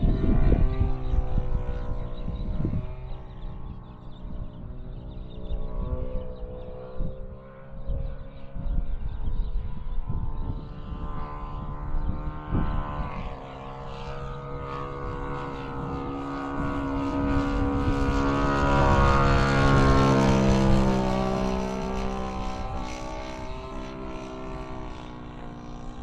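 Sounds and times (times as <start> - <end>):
model airplane motor droning: 0.0 - 26.0
wind on microphone: 0.0 - 26.0.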